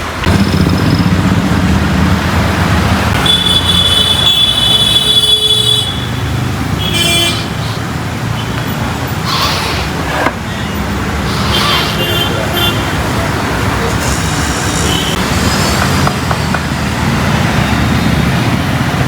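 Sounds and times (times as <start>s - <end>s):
traffic engines rumbling: 0.0s - 19.0s.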